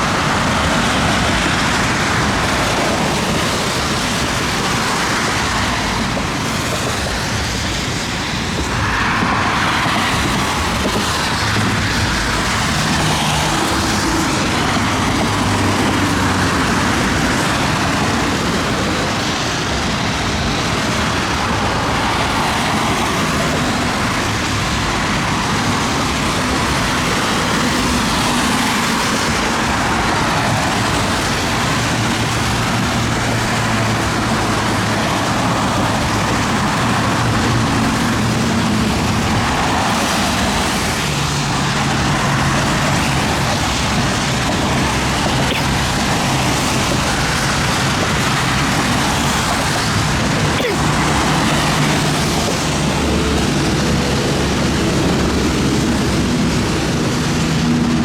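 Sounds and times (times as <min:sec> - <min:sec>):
rain and wind rushing: 0:00.0 - 0:58.0.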